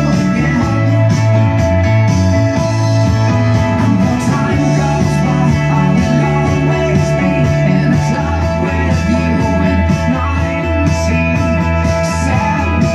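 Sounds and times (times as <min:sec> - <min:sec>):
loud rock music through speakers: 0:00.0 - 0:12.9.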